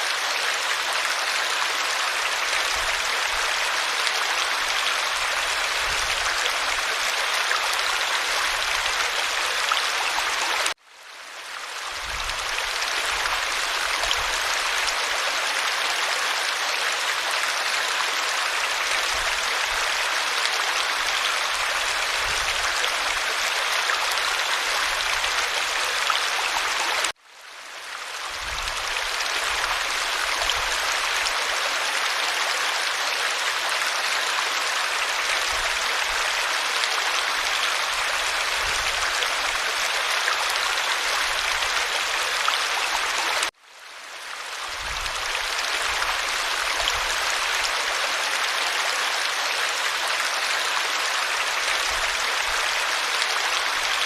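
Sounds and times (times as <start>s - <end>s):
stream water babbling: 0.0s - 54.0s.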